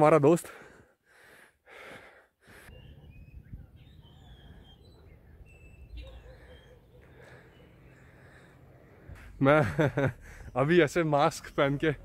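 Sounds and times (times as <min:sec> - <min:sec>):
faint birds chirping: 0:00.6 - 0:12.0.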